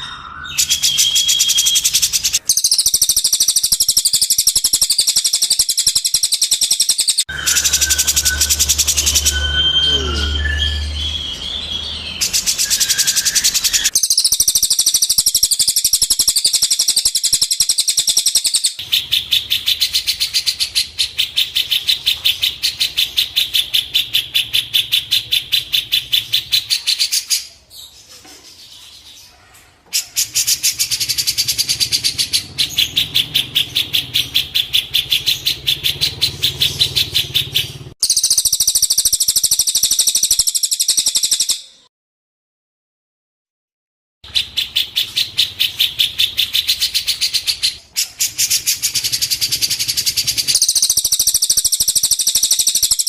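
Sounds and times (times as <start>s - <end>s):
songbird trill: 0.0s - 41.9s, 44.2s - 53.0s.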